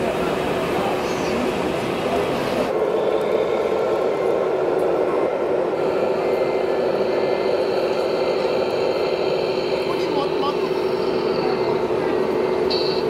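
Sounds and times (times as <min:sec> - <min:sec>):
crowd noise: 0:00.0 - 0:13.0.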